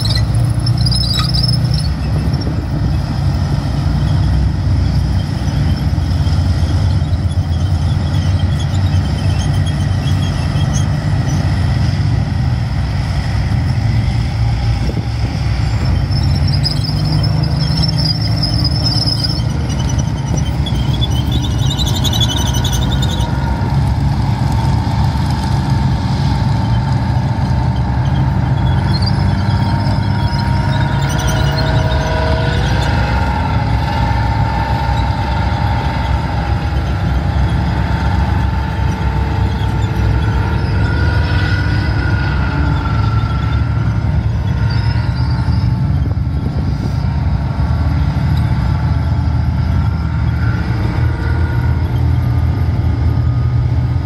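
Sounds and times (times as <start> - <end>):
tank engine rumble: 0.0 - 54.0
tank tracks whining and squealing: 0.0 - 54.0.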